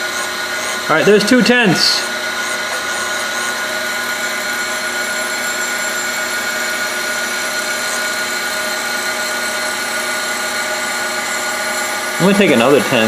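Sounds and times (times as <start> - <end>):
cylindrical grinder whining: 0.0 - 13.0.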